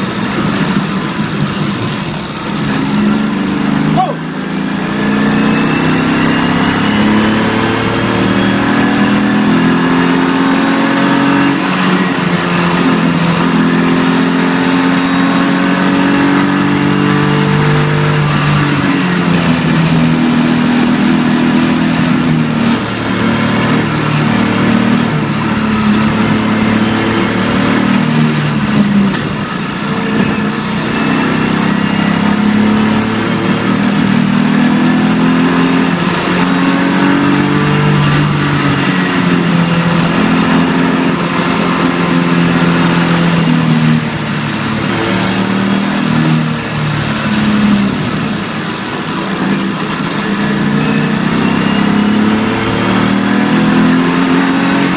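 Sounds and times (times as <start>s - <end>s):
car engine accelerating: 0.0s - 54.9s
road and tyre noise: 0.0s - 54.9s.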